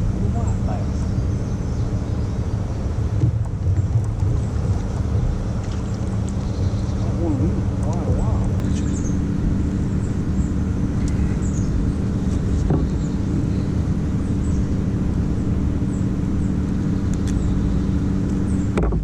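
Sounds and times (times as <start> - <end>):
motor droning: 0.0 - 19.0.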